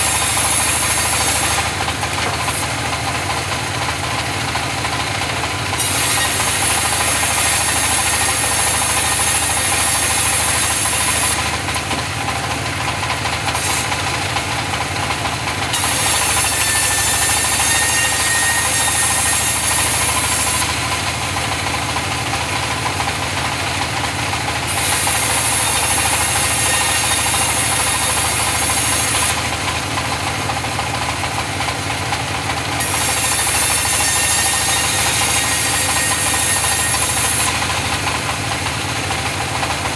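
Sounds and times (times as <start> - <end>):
saw blade whining through wood: 0.0 - 39.9
saw running idle: 0.0 - 39.9.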